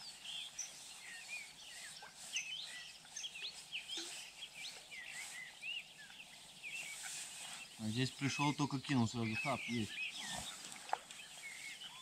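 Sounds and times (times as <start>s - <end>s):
small birds chirping and singing: 0.0s - 12.0s.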